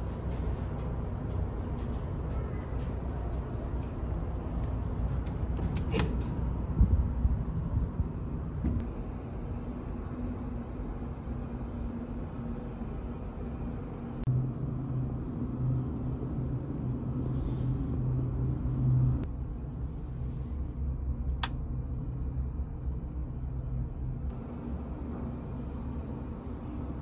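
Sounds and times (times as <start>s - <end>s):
ship machinery rumble and hum: 0.0s - 27.0s.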